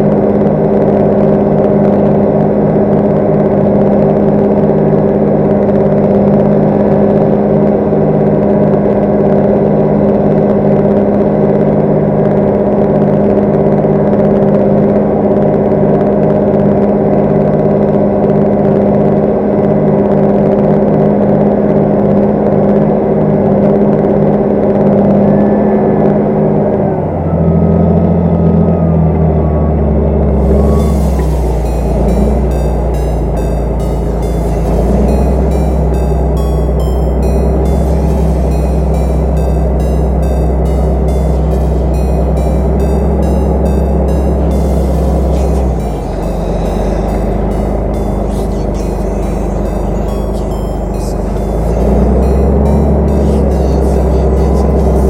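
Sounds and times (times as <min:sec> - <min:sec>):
deeper steady tones: 0:00.0 - 0:55.0
tractor diesel engine drone: 0:00.0 - 0:55.0.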